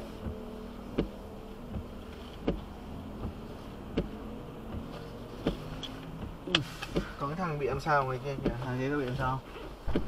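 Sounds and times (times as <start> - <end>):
regular clicking in car: 0.0 - 10.0
steady low hum: 0.0 - 10.0.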